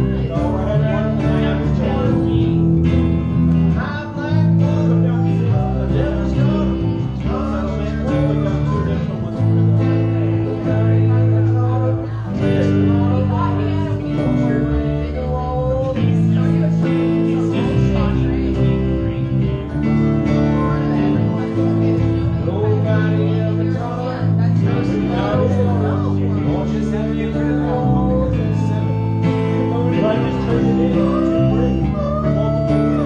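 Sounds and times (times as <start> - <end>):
acoustic band playing: 0.0 - 33.0
acoustic guitar: 0.0 - 33.0
held low notes: 0.0 - 33.0.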